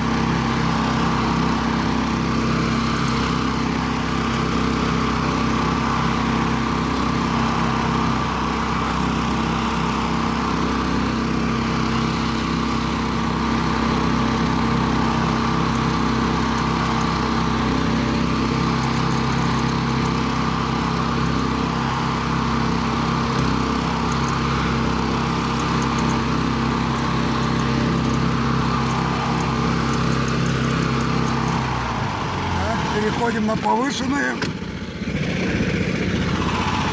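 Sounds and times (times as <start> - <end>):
vehicle engine running under load: 0.0 - 36.9.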